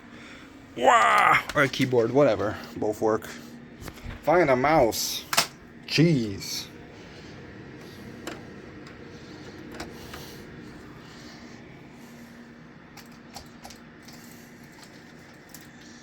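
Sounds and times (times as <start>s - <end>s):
computer cooling fans humming: 0.0s - 16.0s.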